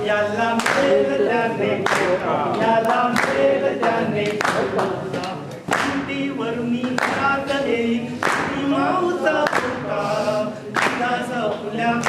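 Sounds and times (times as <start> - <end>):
men singing together: 0.0 - 12.0
hands clapping on the beat: 0.4 - 10.0, 10.6 - 12.0.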